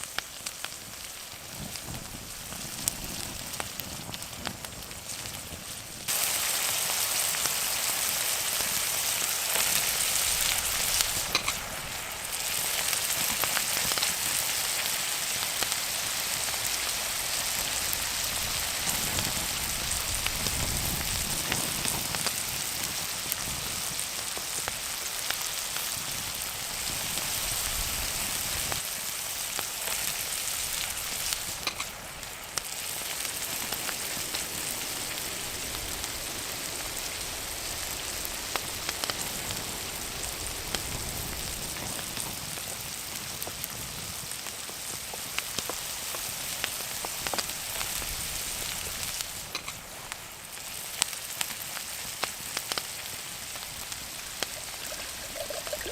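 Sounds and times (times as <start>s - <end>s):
bacon sizzling in a skillet: 0.0s - 55.9s.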